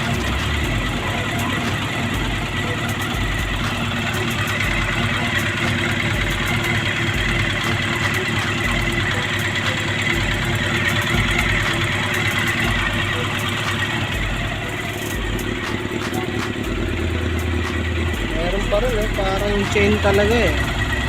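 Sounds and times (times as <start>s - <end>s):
fast mechanical ticking: 0.0s - 21.0s
motorcycle engine idling: 0.0s - 21.0s.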